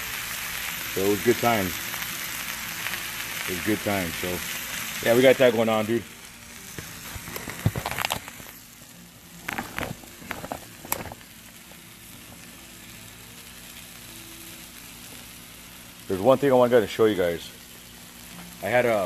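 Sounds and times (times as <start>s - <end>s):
steaks sizzling on griddle: 0.0s - 19.0s.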